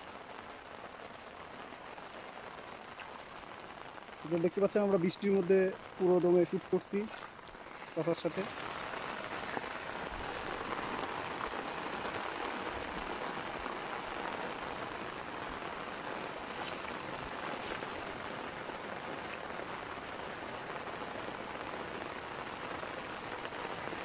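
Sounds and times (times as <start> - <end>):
rain on shallow water: 0.0 - 24.0.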